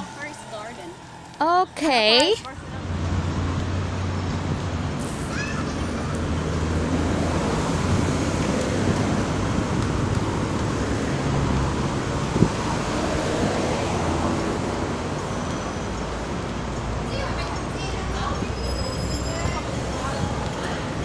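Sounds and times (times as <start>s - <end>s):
roadside traffic rumble: 0.0s - 21.0s.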